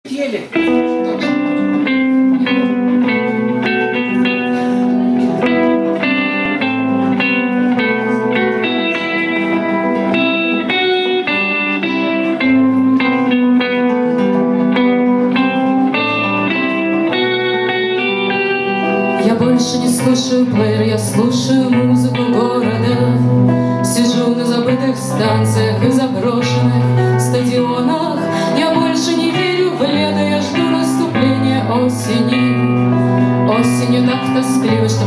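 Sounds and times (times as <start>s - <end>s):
guitar plucking notes: 0.4s - 35.0s.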